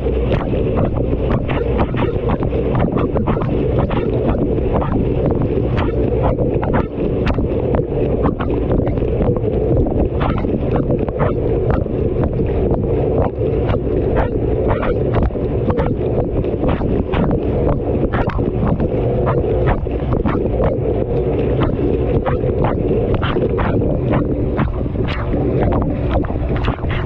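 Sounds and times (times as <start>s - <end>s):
washing machine churning rumble: 0.0s - 27.0s.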